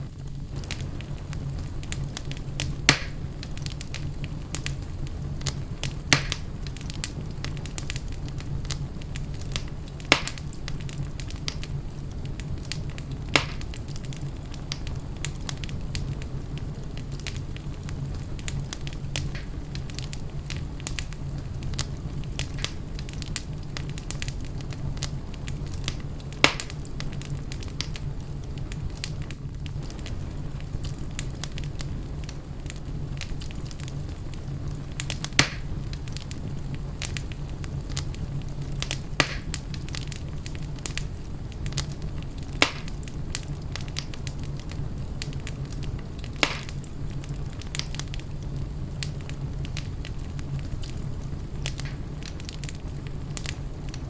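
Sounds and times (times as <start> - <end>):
steady low rumble: 0.0 - 54.0
wood fire crackling and popping: 0.0 - 54.0.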